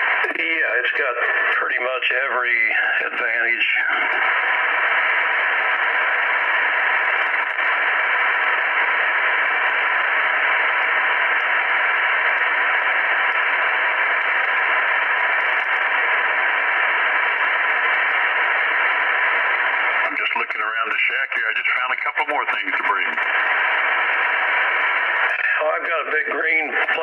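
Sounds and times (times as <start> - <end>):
radio static hiss: 0.0 - 27.0.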